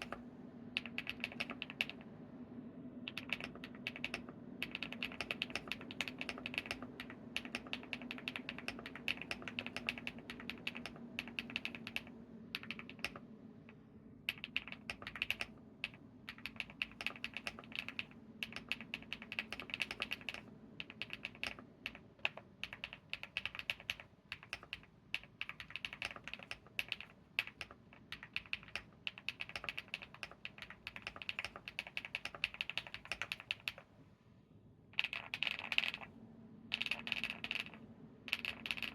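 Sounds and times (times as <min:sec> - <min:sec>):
mechanical keyboard typing: 0:00.0 - 0:00.2, 0:00.8 - 0:02.0, 0:03.1 - 0:13.2, 0:14.3 - 0:33.8, 0:35.0 - 0:36.1, 0:36.7 - 0:38.9.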